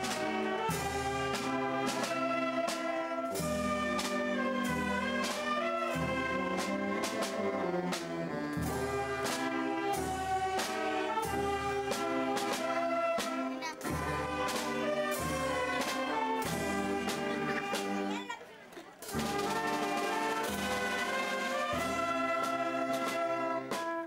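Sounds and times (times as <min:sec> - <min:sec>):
marching brass band playing: 0:00.0 - 0:18.4, 0:19.0 - 0:24.0.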